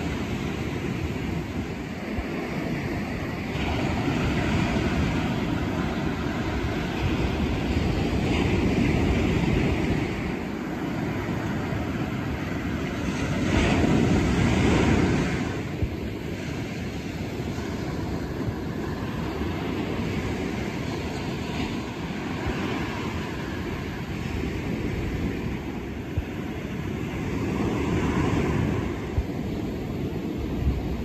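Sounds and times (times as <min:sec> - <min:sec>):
ocean surf breaking: 0:00.0 - 0:31.0.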